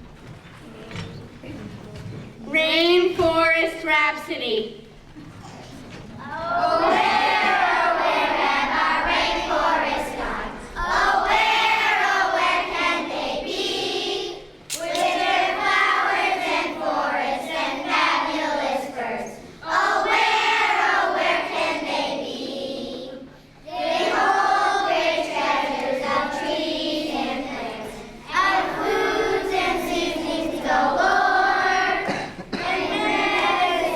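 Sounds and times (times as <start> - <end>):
children's choir singing: 6.2 - 33.9.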